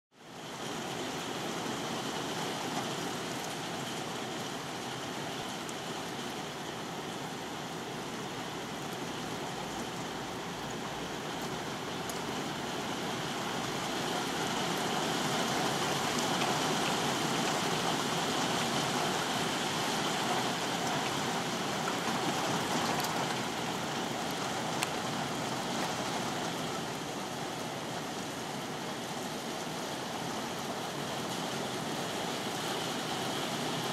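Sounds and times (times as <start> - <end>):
steady rain hiss: 0.2 - 33.9.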